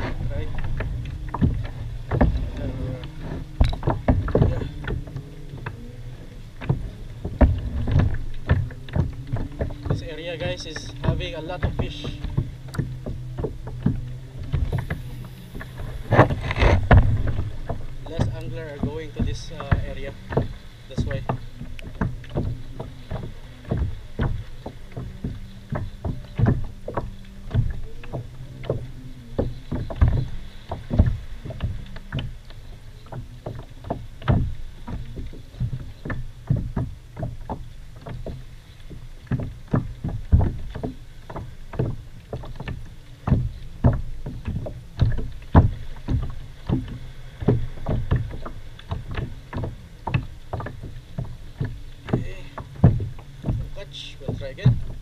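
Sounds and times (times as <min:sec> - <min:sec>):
steady low rumble: 0:00.0 - 0:55.0
water knocking against kayak hull: 0:00.0 - 0:55.0.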